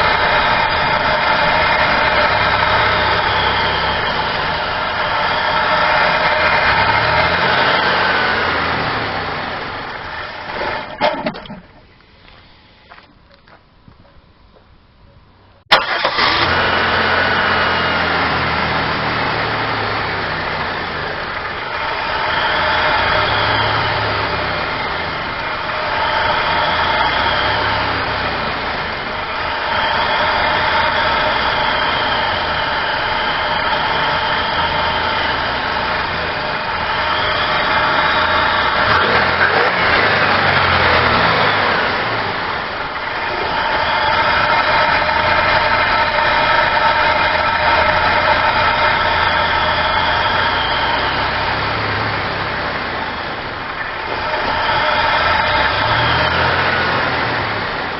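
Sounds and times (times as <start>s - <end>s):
rough engine idle: 0.0s - 14.8s, 15.4s - 57.9s
car engine starting: 0.0s - 57.9s.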